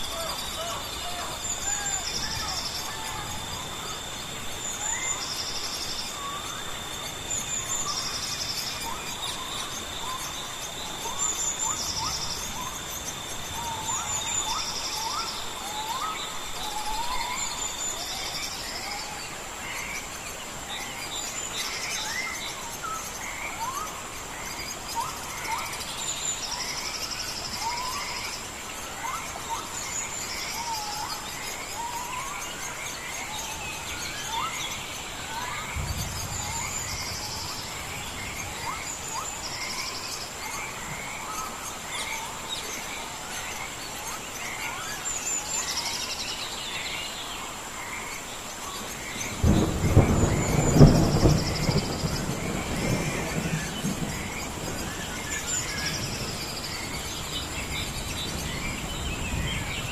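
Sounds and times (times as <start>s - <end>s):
birds chirping: 0.0s - 18.7s, 19.3s - 59.9s
background hiss: 0.0s - 59.9s
high-pitched insect whine: 0.0s - 59.9s.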